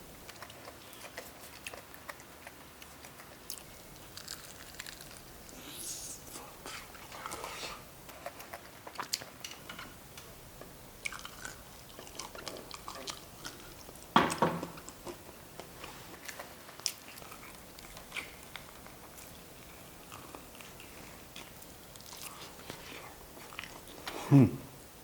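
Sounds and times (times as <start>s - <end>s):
person chewing wetly: 0.2s - 5.7s, 6.3s - 9.5s, 10.6s - 14.1s, 14.7s - 24.2s.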